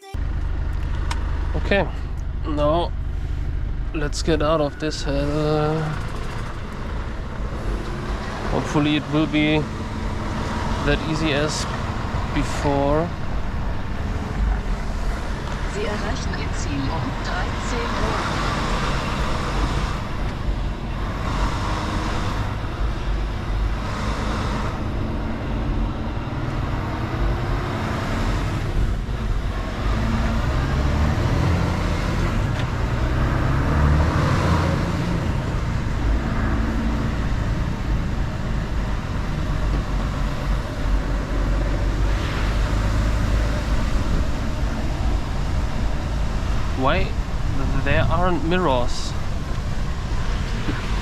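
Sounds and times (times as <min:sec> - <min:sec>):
road noise: 0:00.0 - 0:51.0
truck diesel engine running: 0:00.0 - 0:51.0.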